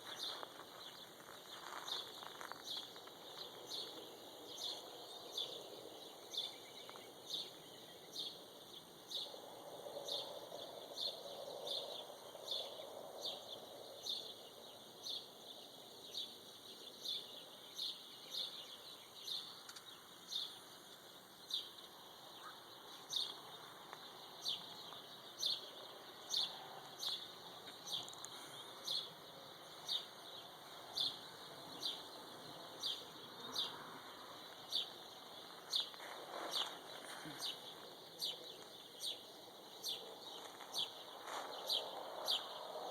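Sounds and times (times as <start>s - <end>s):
background bird calls: 0.0s - 42.9s.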